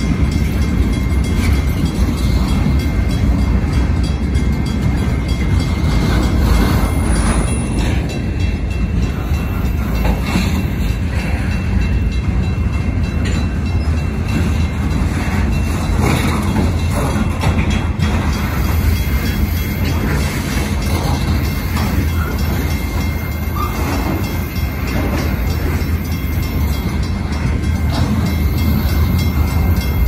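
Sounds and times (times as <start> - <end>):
crossing bells ringing: 0.0 - 30.0
train cars clanking: 0.0 - 30.0
train wheels rumbling on rails: 0.0 - 30.0.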